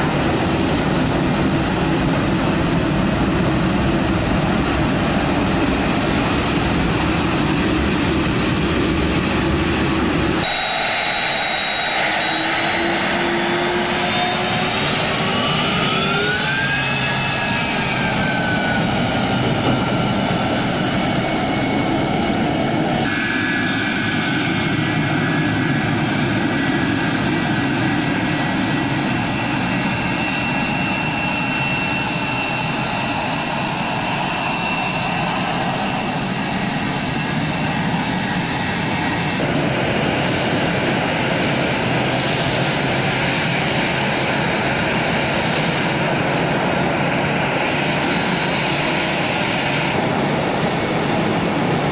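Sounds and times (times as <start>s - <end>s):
jet airliner engines running: 0.0s - 51.9s.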